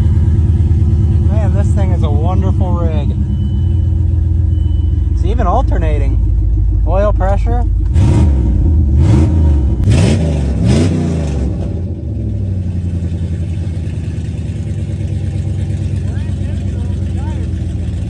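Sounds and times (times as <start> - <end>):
pickup truck engine revving and idling: 0.0 - 18.0.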